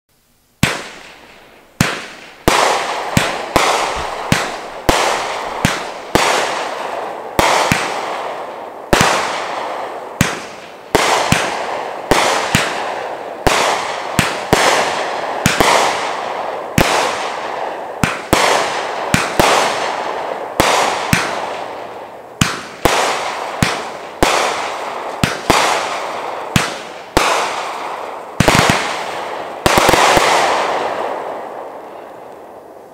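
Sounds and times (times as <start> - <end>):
rush of burning fireworks: 0.1 - 32.9
firework bangs: 0.6 - 32.9.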